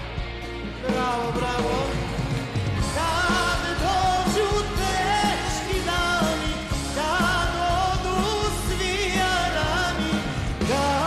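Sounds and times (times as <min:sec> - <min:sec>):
live band playing pop-folk song: 0:00.0 - 0:11.0.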